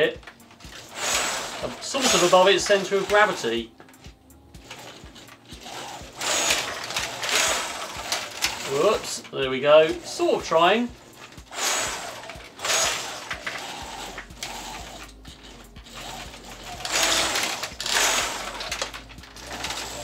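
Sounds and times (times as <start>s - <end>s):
robot leg actuators whirring: 0.0s - 20.0s.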